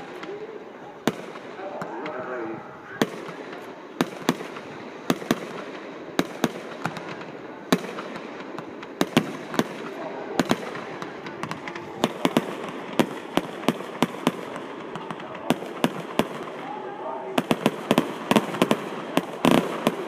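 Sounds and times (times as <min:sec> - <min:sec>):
continuous hiss: 0:00.0 - 0:20.0
fireworks bangs: 0:00.0 - 0:20.0.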